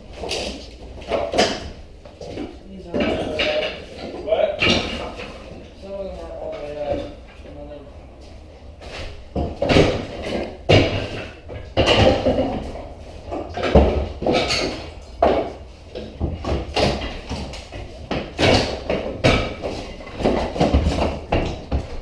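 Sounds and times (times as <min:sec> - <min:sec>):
knocks bangs and clatter: 0:00.6 - 0:05.6, 0:09.2 - 0:22.0.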